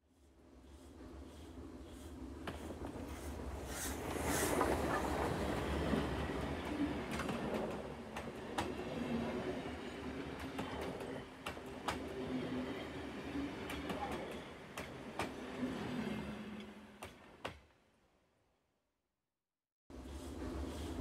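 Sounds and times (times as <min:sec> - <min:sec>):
steam train rumbling: 0:00.5 - 0:17.4.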